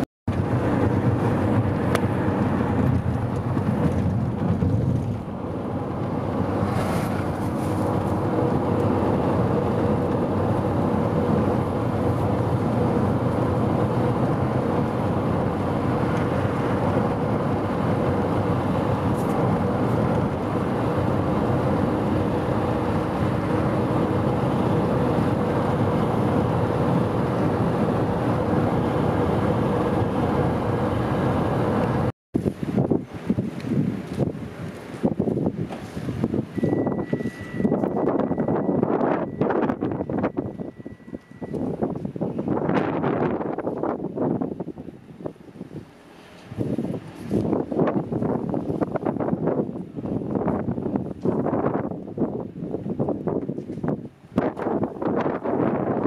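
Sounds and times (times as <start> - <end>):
vehicle engine and tyre noise: 0.0 - 56.0.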